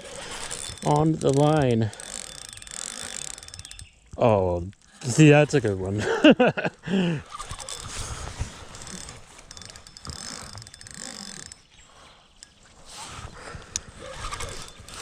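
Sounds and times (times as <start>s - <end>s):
fishing reel ratcheting: 0.0s - 6.0s, 7.2s - 15.0s.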